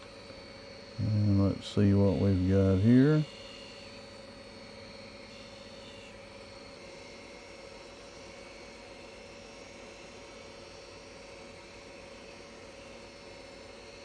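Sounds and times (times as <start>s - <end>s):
faint steady whine: 0.0s - 14.0s
low workshop hum: 0.0s - 14.0s.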